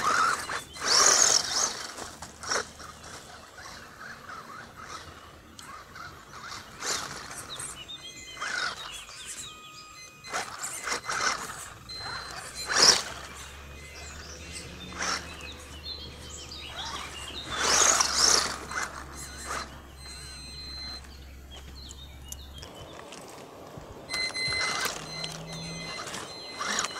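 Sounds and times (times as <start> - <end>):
toy car motor and tyre noise: 0.0 - 26.9.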